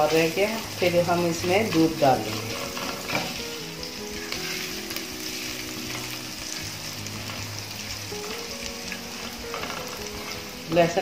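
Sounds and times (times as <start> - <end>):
garlic sizzling in butter: 0.0 - 11.0.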